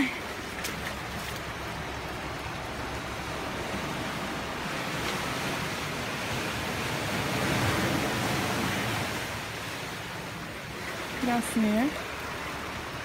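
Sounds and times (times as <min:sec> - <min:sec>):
sea surf washing ashore: 0:00.0 - 0:13.0.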